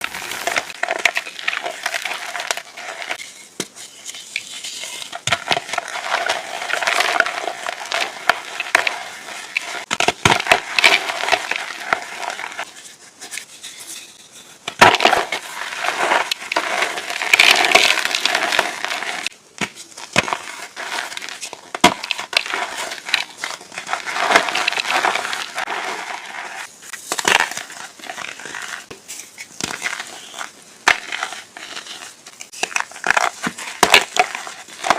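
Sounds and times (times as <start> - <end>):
chalk being crushed and crunching: 0.0 - 34.9.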